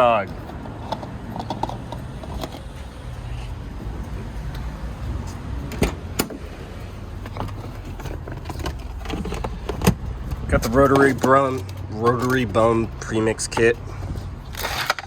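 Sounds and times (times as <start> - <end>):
car engine humming: 0.0 - 14.9.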